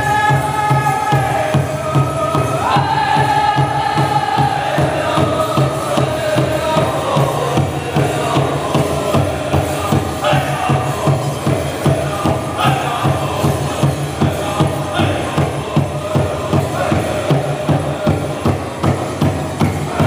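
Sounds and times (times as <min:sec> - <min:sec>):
big drum beat: 0:00.0 - 0:20.0
group singing in chorus: 0:00.0 - 0:20.0.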